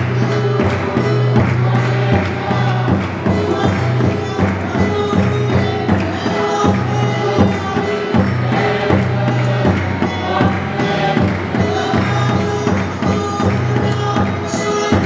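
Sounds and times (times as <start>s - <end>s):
congregation singing a hymn: 0.0s - 15.0s
keyboard sustained low notes: 0.0s - 15.0s.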